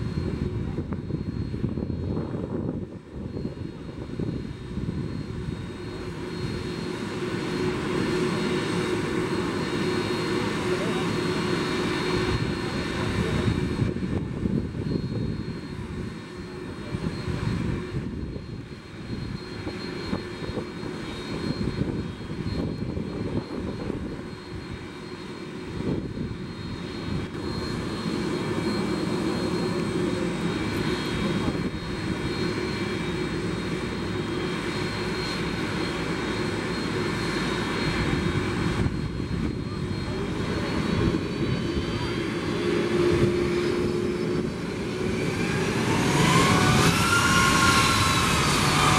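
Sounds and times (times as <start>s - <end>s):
high engine whine: 0.0s - 48.9s
jet engines running: 0.0s - 48.9s.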